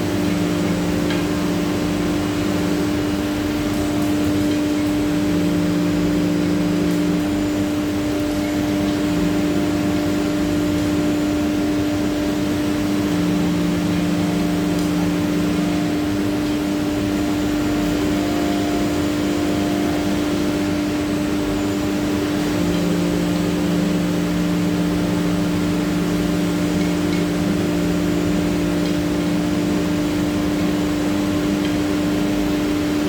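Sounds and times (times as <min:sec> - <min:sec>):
lower hum: 0:00.0 - 0:33.0
router spindle high hum: 0:00.0 - 0:33.0.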